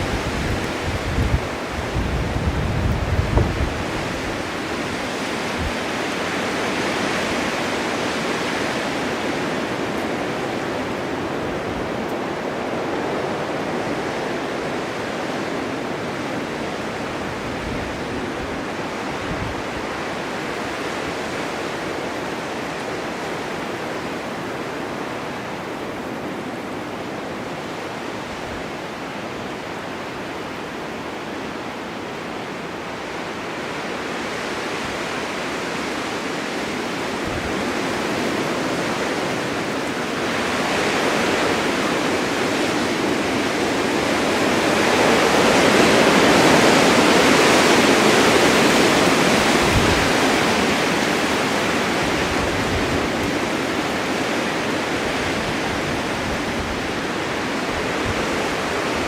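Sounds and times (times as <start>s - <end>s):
blizzard wind rushing: 0.0s - 59.0s
low wind gusts: 0.0s - 59.0s.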